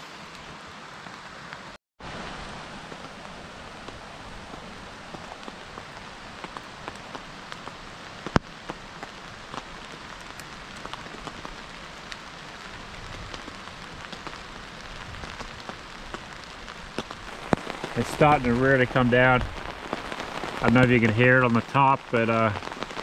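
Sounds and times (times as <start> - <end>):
rain falling on a tarp: 0.0 - 23.0.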